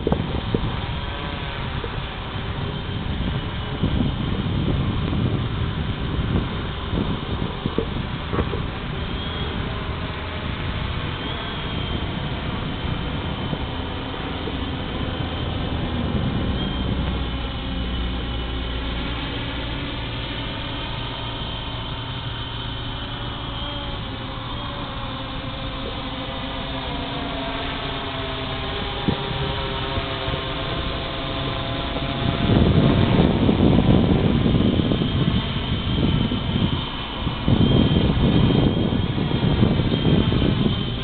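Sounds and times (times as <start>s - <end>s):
drone propellers whining: 0.0s - 41.0s
low rushing noise: 0.0s - 41.0s.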